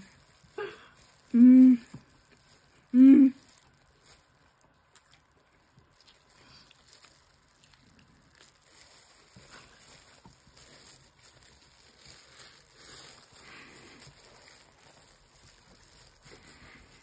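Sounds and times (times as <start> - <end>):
soft rustles: 0.0 - 17.0
chewing chicken: 1.9 - 17.0.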